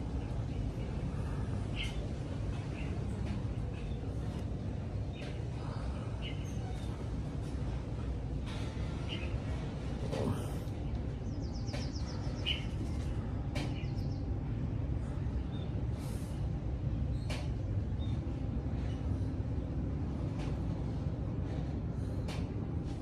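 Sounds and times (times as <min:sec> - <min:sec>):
low outdoor background rumble: 0:00.0 - 0:23.0.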